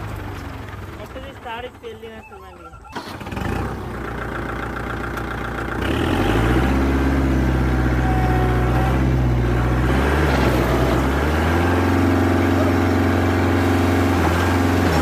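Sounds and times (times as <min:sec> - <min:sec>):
tractor diesel engine revving: 0:00.0 - 0:15.0.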